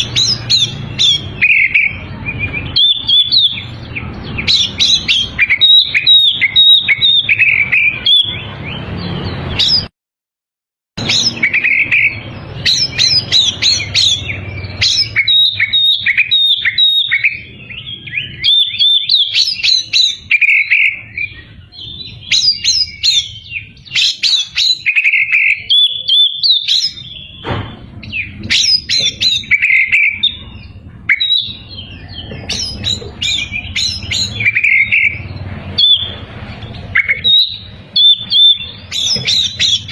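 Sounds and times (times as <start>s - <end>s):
bird whistling and chirping: 0.0s - 9.9s, 11.0s - 39.9s.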